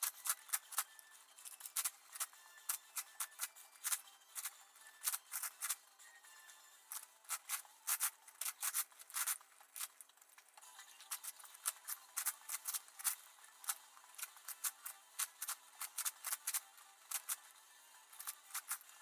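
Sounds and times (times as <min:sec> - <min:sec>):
plastic puzzle cube clacking: 0:00.0 - 0:05.8, 0:06.9 - 0:19.0.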